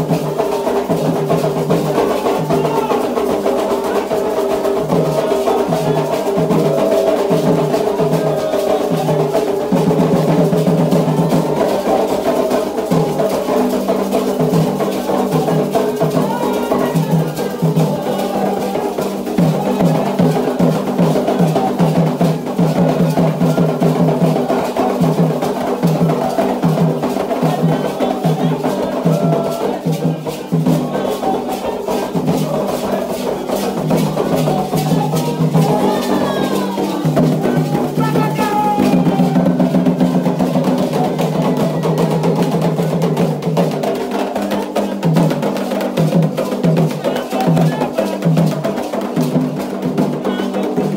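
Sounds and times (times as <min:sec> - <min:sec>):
hand drums: 0:00.0 - 0:50.9
struck bell beat: 0:00.0 - 0:50.9
voices singing: 0:00.0 - 0:50.9.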